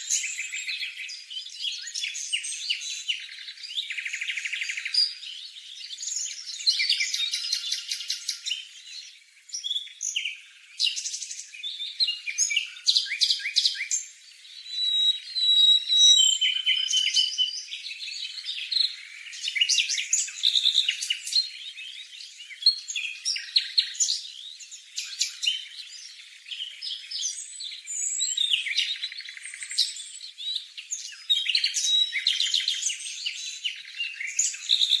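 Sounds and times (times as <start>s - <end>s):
bird chirping and trilling: 0.0s - 35.0s.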